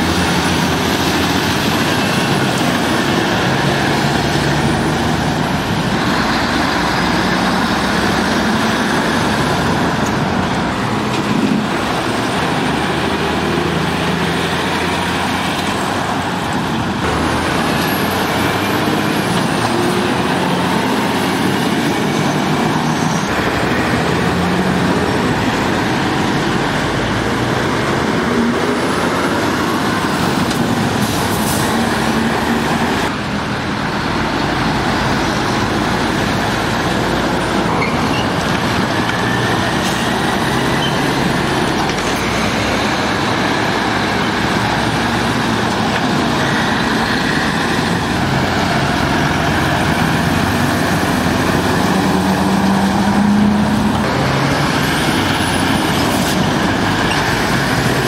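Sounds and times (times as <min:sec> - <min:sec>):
lorry diesel engines: 0:00.0 - 0:58.0
tyre and traffic noise: 0:00.0 - 0:58.0.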